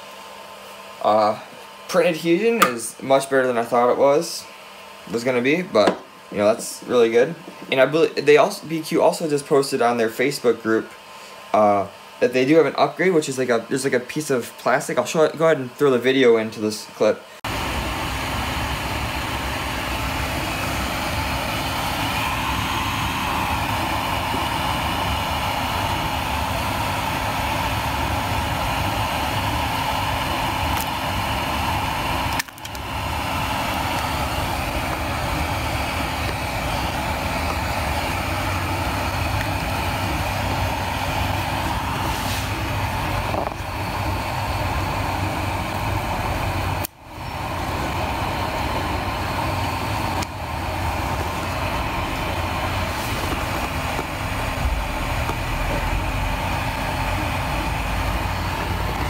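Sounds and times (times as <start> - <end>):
mechanical hum and rumble: 0.0 - 59.0.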